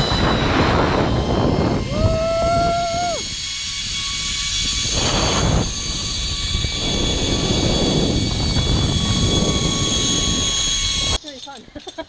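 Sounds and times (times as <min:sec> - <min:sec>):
wind rushing on microphone: 0:00.0 - 0:11.2
zipline pulleys whining: 0:00.0 - 0:12.0.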